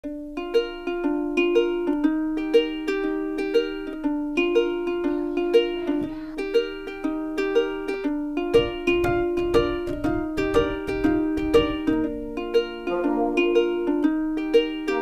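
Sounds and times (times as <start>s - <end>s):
plucked string instrument tune: 0.0s - 15.0s.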